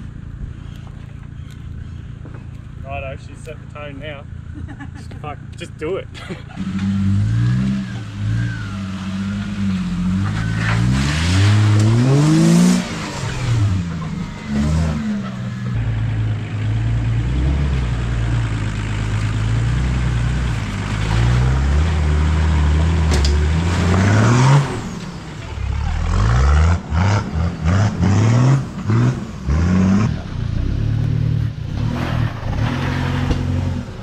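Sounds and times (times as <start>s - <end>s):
off-road vehicle engines revving: 0.0s - 34.0s.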